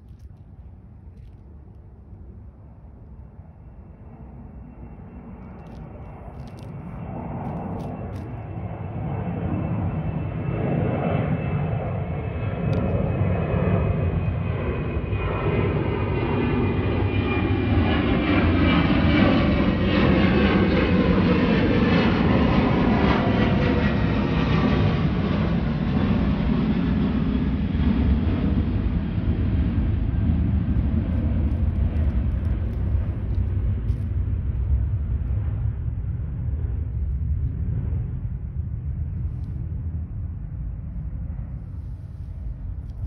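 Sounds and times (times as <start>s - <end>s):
aircraft engine drone: 0.0s - 43.0s.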